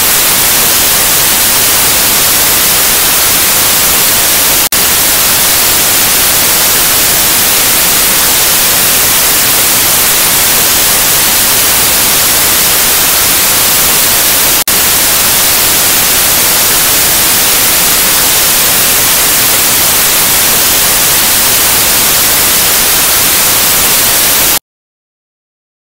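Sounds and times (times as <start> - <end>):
television static hiss: 0.0 - 24.6.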